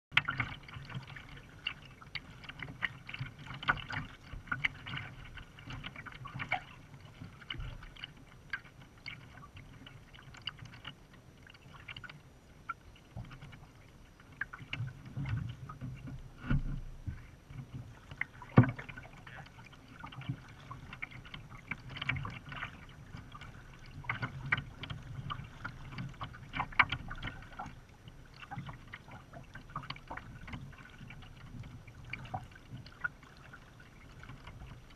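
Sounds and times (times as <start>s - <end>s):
paddle drips and splashes: 0.1s - 34.9s
water lapping against kayak: 0.1s - 34.9s.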